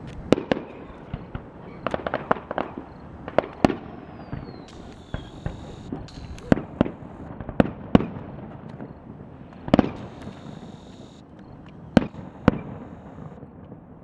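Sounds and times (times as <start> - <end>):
firework shells bursting: 0.0 - 13.5.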